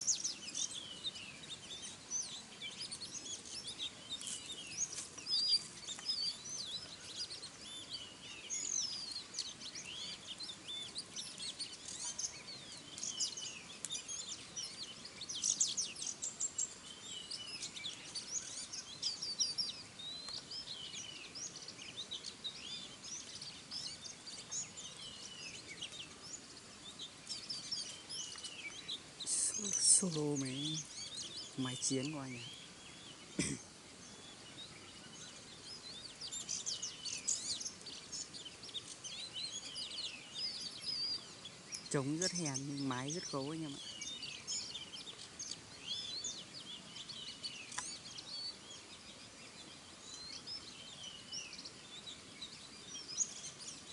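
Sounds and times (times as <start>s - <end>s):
small birds chirping: 0.0s - 53.9s
steady background hiss: 0.0s - 53.9s.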